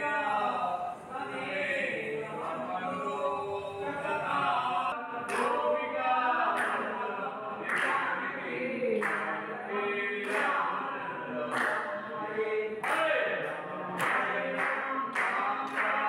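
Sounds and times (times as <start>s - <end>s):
group singing devotional song: 0.0s - 16.0s.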